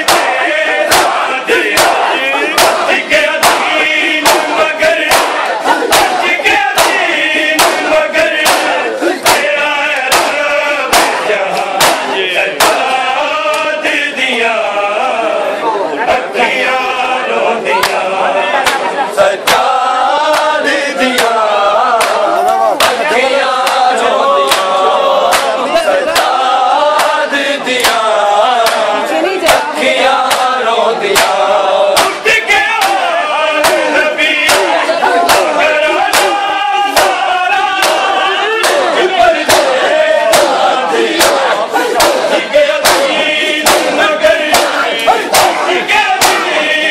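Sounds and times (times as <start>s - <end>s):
chest-beating slaps: 0.0s - 13.7s, 17.8s - 18.0s, 18.6s - 21.4s, 22.0s - 27.2s, 27.8s - 46.7s
men chanting a lament: 0.0s - 46.9s.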